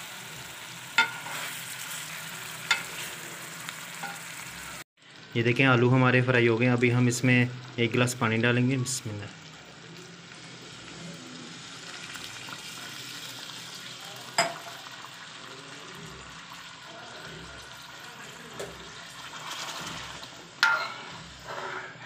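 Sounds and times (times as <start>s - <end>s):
potatoes sizzling in oil: 0.0s - 22.0s.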